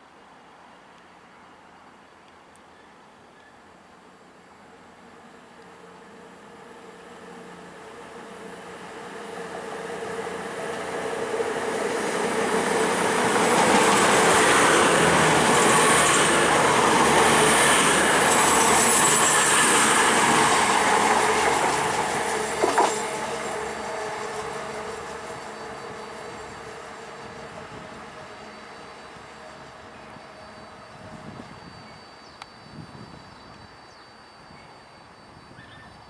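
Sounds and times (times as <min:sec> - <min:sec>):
high hiss from rails: 0:00.0 - 0:35.6
diesel train engines and wheels: 0:00.1 - 0:36.0.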